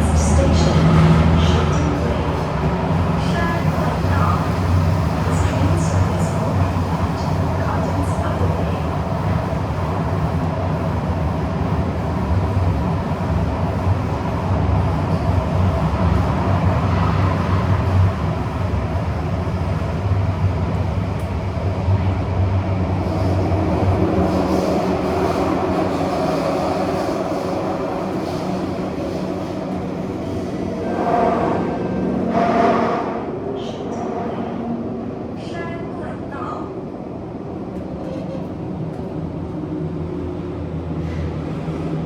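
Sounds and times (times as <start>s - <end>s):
train wheels rumbling: 0.0s - 42.0s.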